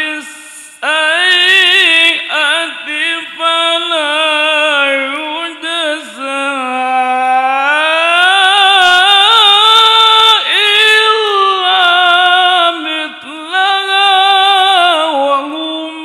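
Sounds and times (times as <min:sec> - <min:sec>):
man reciting melodically into microphone: 0:00.0 - 0:16.0.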